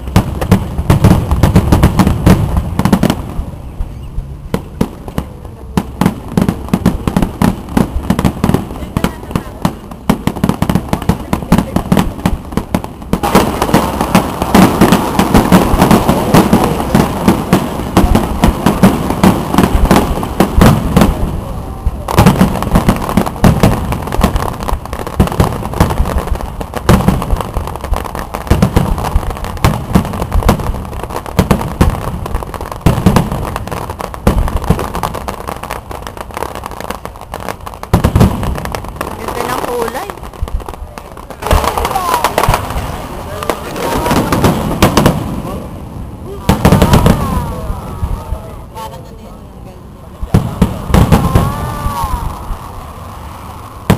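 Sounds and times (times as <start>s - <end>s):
fireworks booming: 0.0s - 53.9s
fireworks bursting and crackling: 0.0s - 53.9s.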